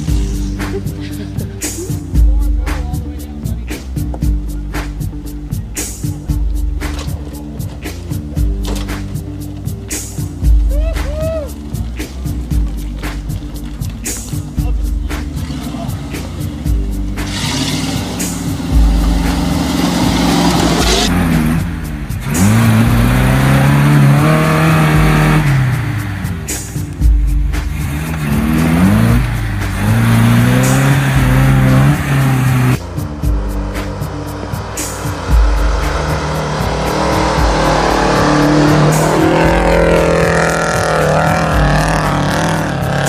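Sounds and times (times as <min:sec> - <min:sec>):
truck engines revving: 0:00.0 - 0:43.0.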